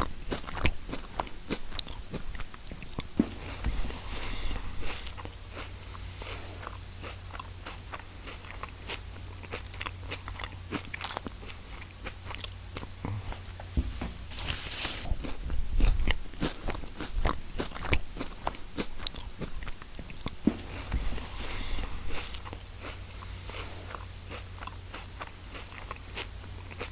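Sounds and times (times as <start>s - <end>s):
mouth chewing crunchy food: 0.0s - 13.7s, 14.3s - 26.9s.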